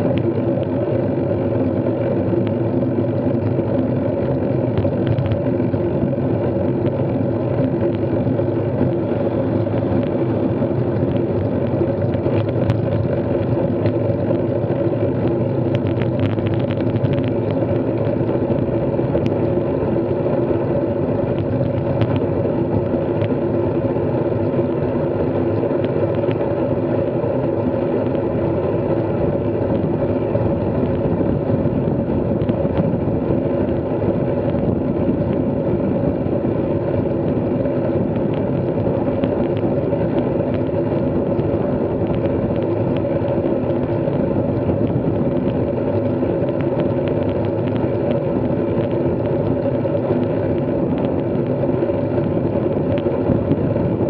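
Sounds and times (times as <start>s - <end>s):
road noise: 0.0s - 54.0s
vehicle engine humming: 0.0s - 54.0s.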